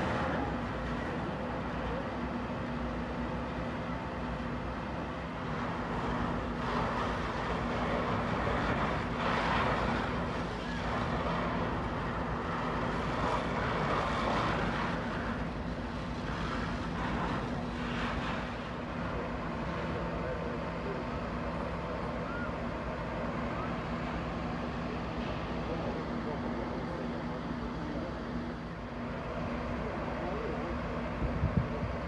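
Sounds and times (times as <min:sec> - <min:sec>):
truck engine humming: 0:00.0 - 0:32.0.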